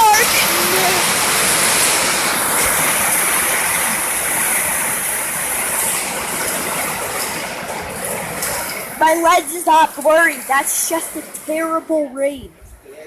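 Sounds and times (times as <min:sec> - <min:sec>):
heavy rain pouring: 0:00.0 - 0:12.4.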